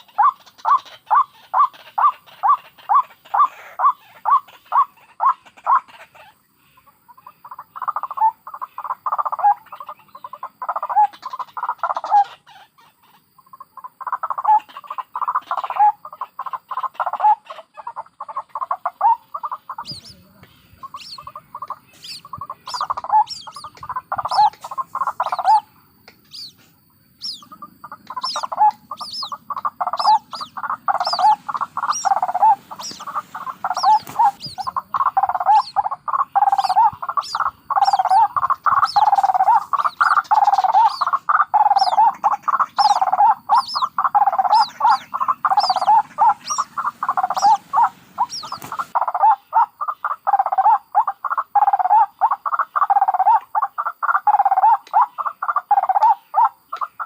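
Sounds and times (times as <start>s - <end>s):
bird cackling: 0.0s - 57.0s
waterhen croaking calls: 0.0s - 57.0s
high-pitched chick peeping: 7.2s - 57.0s.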